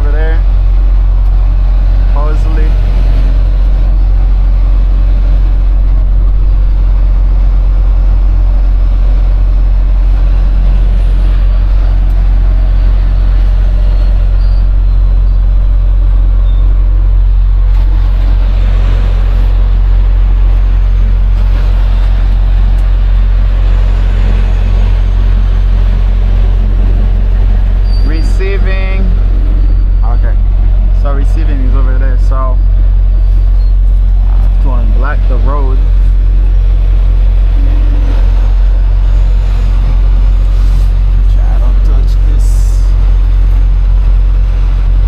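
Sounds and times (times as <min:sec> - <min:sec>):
diesel engine rumbling: 0:00.0 - 0:45.0.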